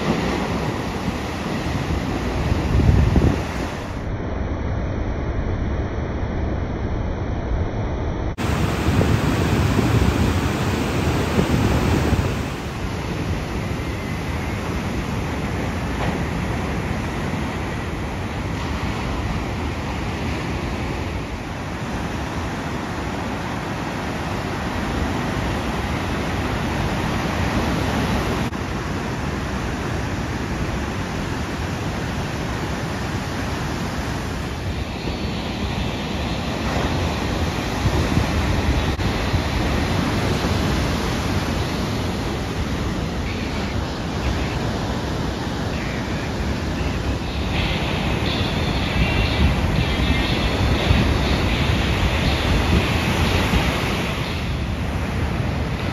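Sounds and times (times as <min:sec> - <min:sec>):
ocean surf breaking: 0:00.0 - 0:04.2, 0:08.4 - 0:55.9
wind: 0:00.0 - 0:55.9.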